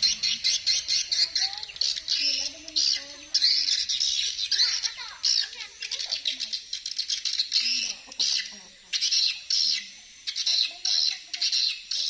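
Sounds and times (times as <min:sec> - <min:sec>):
high-pitched pulsing wildlife chorus: 0:00.0 - 0:12.0.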